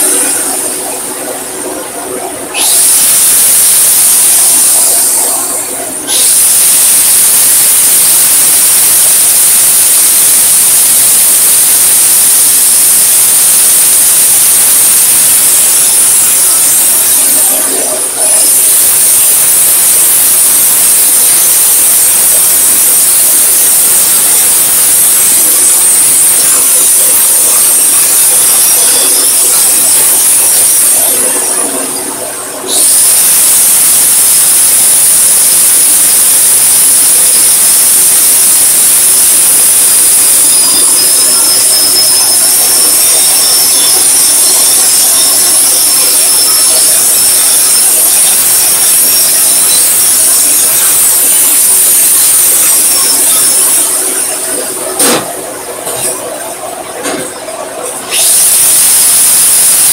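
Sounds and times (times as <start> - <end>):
welding arc hissing: 0.0 - 56.7, 57.3 - 59.9.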